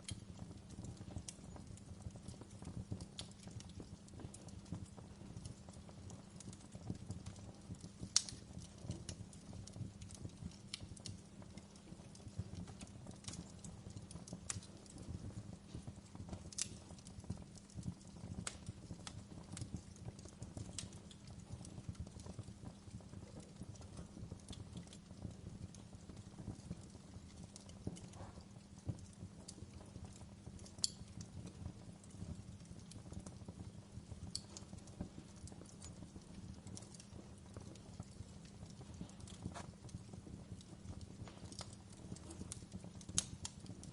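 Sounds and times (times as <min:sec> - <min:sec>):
fire crackling and popping: 0:00.0 - 0:43.9
fire rumbling: 0:00.0 - 0:43.9.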